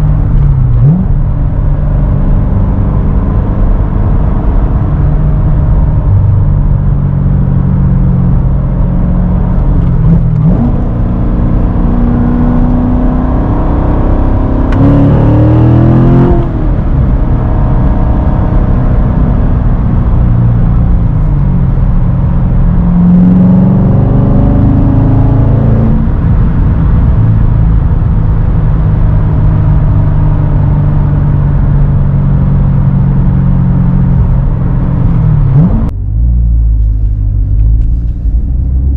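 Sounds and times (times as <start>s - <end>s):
car engine revving while driving: 0.0s - 38.9s.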